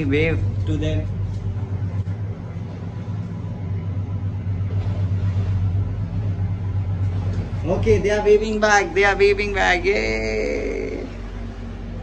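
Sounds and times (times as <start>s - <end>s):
marine engines droning: 0.0s - 12.0s.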